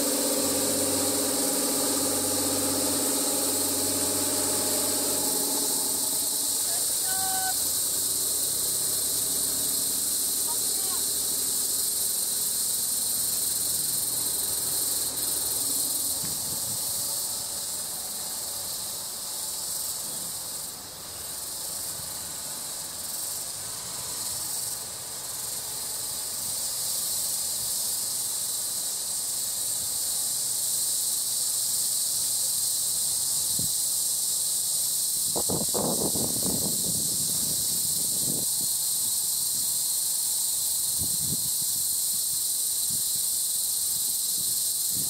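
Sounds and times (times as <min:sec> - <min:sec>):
insect chorus shrill buzz: 0:00.0 - 0:45.0.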